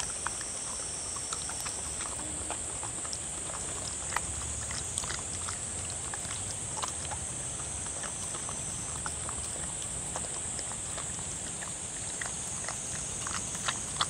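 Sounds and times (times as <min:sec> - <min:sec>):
dog lapping and chewing: 0:00.0 - 0:14.0.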